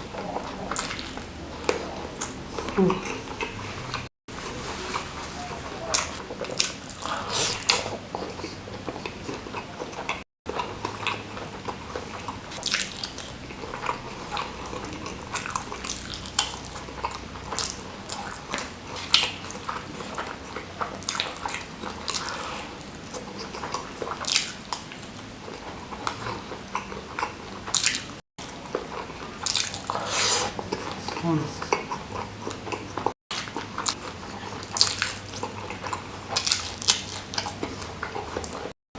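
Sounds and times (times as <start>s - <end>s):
chewing and mouth smacks: 0.0s - 38.7s.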